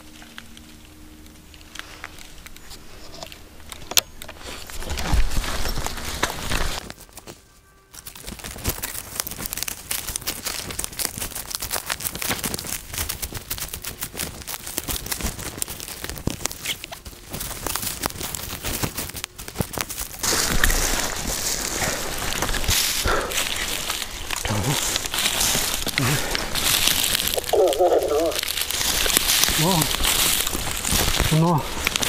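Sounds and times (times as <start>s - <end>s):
footsteps crunching dry leaves: 0.0s - 32.0s.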